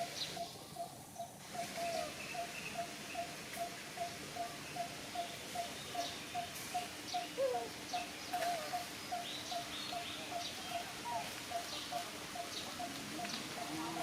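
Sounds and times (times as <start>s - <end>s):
wavering bird calls: 0.0s - 14.0s.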